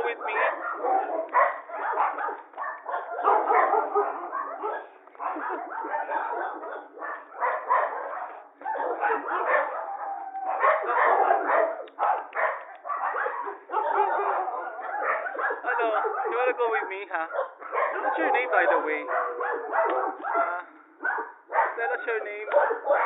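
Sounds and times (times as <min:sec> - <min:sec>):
puppy barking: 0:00.0 - 0:23.0.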